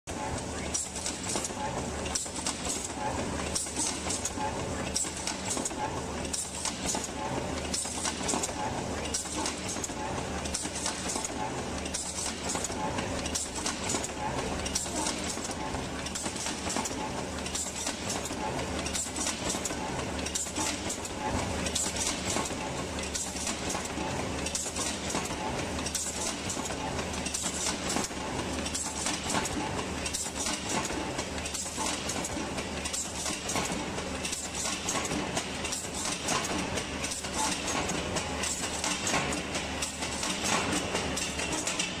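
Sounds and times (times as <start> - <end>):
briquette press stamping clatter: 0.7 - 42.0.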